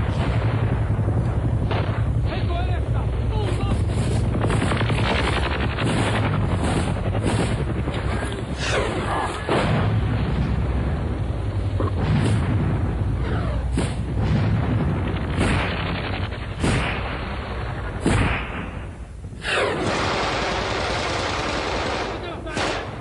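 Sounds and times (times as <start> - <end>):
gunfire and explosions echoing: 0.0 - 23.0
steady low rumble: 0.0 - 23.0.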